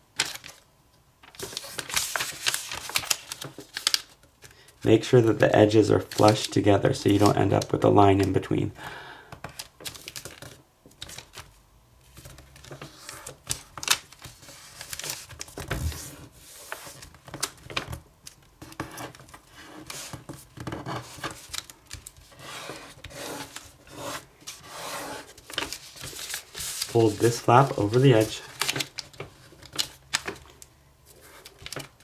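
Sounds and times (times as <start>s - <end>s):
paper being folded and creased: 0.2s - 0.6s, 1.2s - 4.5s, 5.3s - 8.2s, 9.5s - 32.0s.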